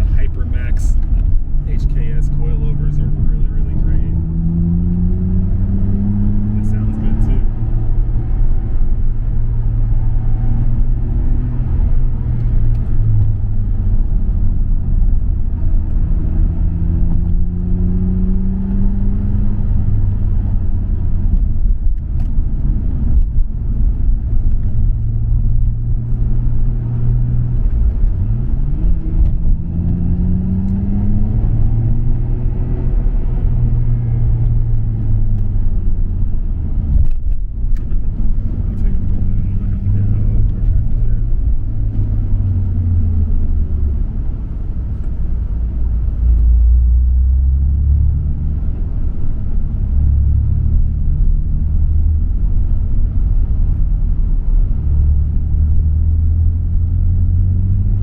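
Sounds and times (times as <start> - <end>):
car engine drone with revs climbing: 0.0 - 58.0.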